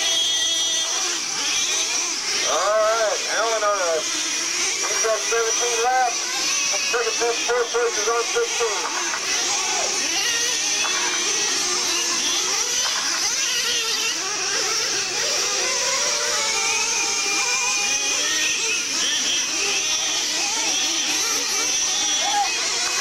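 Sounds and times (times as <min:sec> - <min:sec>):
small engines whining: 0:00.0 - 0:23.0.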